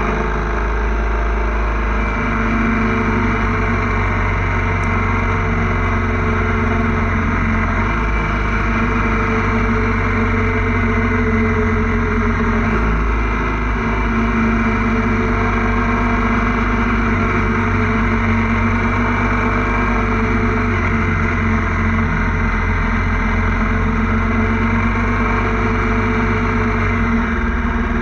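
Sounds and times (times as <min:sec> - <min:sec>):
motorcycle engine droning: 0:00.0 - 0:28.0.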